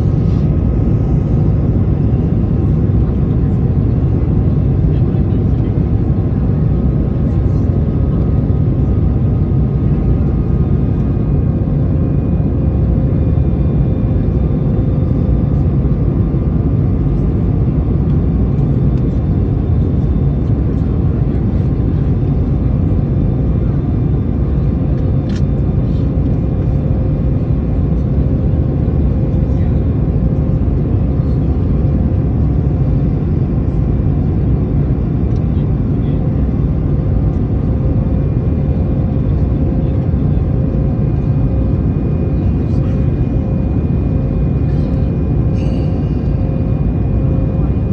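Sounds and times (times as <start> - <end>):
faint engine tones: 0.0 - 47.9
jet engine roar: 0.0 - 47.9.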